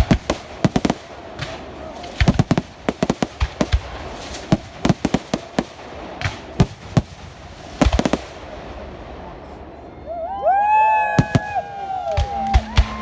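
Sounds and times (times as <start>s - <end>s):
fireworks bangs and cracks: 0.0s - 9.7s, 11.1s - 13.0s.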